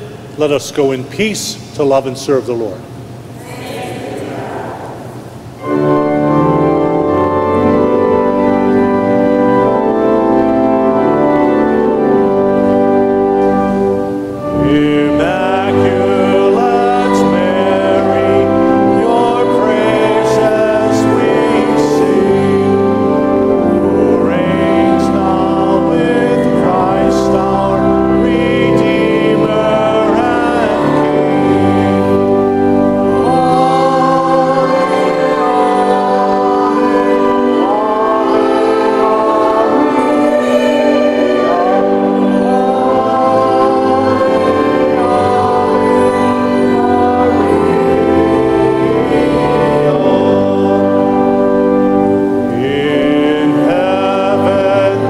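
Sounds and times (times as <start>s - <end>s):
church organ playing hymn: 0.0s - 55.0s
people singing a hymn: 3.3s - 55.0s.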